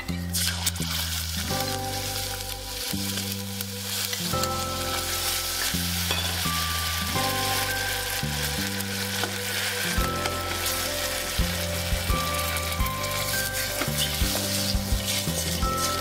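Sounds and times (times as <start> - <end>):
music with held low notes: 0.0 - 16.0
sizzling in a pot: 0.0 - 16.0
metal spoon stirring: 0.3 - 16.0.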